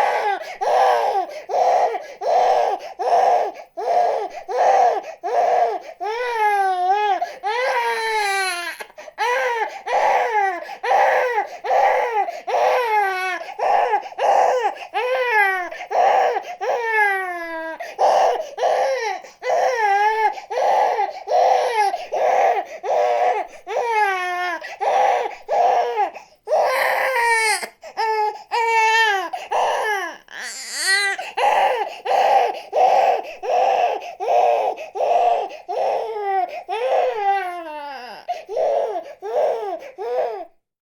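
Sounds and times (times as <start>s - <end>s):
baby crying: 0.0s - 40.6s.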